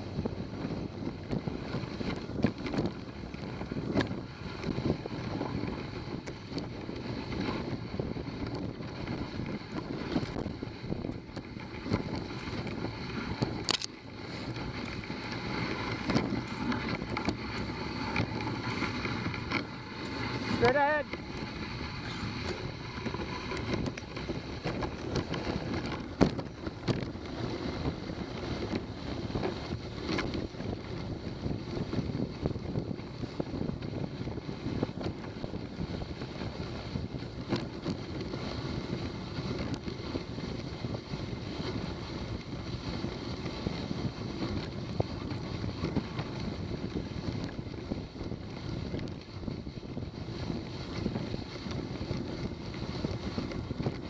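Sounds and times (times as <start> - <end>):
sled rushing over snow: 0.0 - 54.0
wind on microphone: 0.0 - 54.0.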